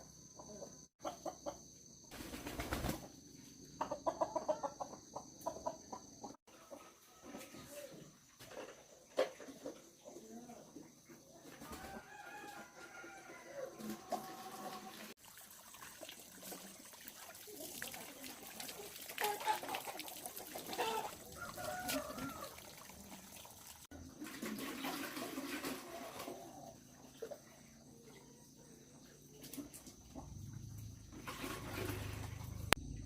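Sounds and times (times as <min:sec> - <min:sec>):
chickens clucking: 0:00.1 - 0:15.2, 0:17.4 - 0:33.0
farmyard noises: 0:00.1 - 0:33.0.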